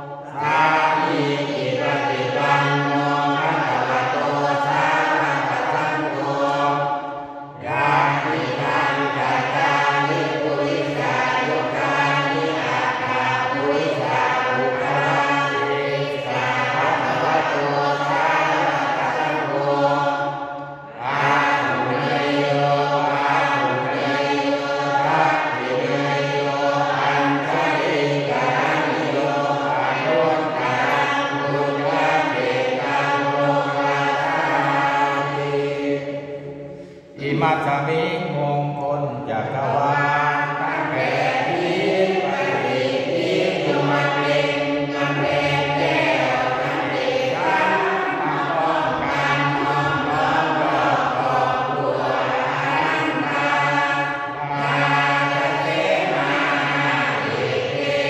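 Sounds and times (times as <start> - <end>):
group of voices chanting: 0.0 - 58.0
man chanting through microphone: 0.0 - 58.0.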